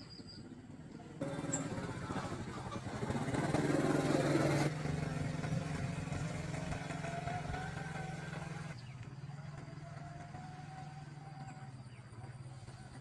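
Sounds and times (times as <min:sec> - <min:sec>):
small engine running: 0:01.1 - 0:13.0.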